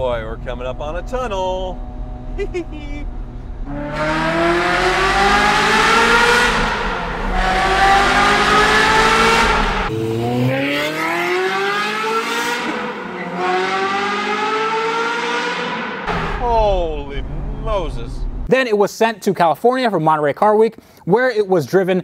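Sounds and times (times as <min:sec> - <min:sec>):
sports car engine accelerating: 0:00.0 - 0:18.5.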